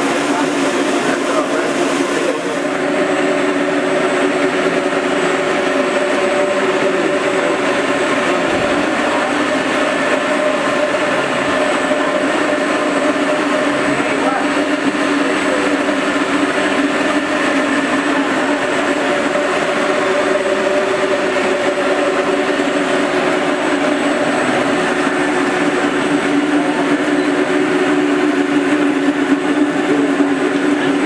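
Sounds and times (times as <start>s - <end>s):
floor grinder humming: 0.0s - 31.0s.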